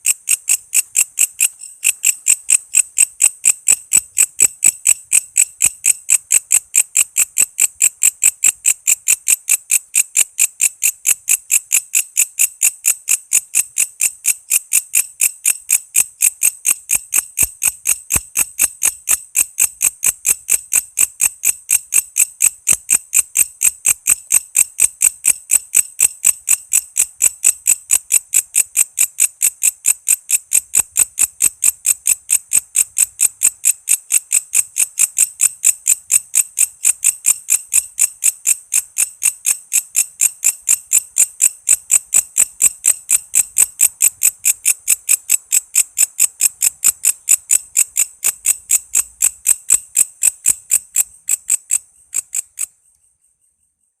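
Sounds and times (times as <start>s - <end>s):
insect high chirps: 0.0s - 54.0s.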